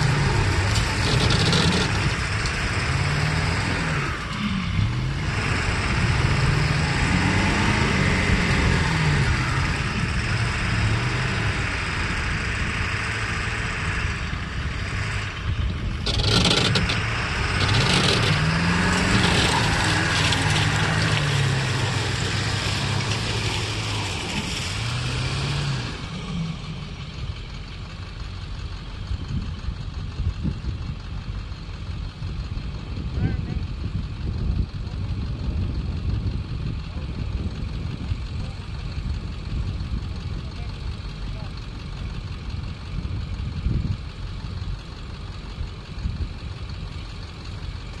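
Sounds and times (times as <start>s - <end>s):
truck engines revving and idling: 0.0s - 48.0s.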